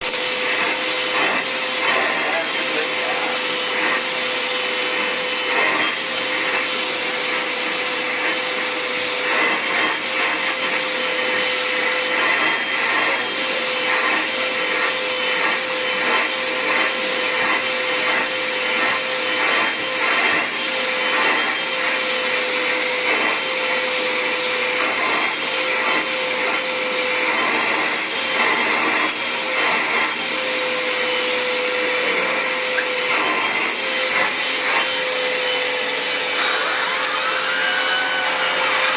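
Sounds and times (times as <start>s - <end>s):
vacuum cleaner whining: 0.0s - 38.9s.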